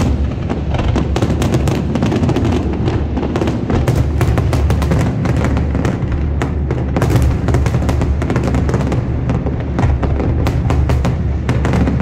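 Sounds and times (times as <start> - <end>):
fireworks cracking: 0.0 - 12.0
low rumble of booms: 0.0 - 12.0.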